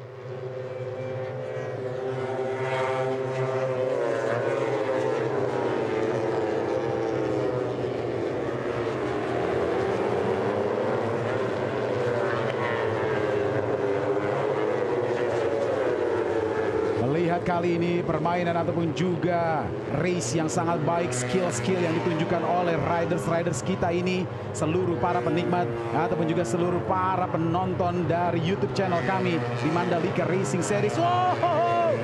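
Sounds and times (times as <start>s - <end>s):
motorcycle engines racing: 0.0s - 32.0s.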